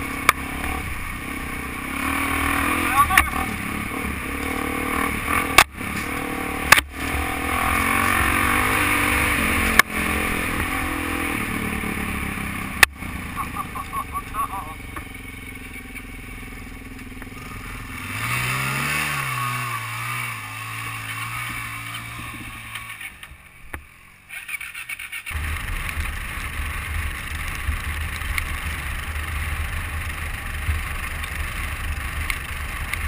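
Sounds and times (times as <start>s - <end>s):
motorcycle engine: 0.0s - 33.0s
road rumble: 0.0s - 33.0s
wind: 0.0s - 33.0s.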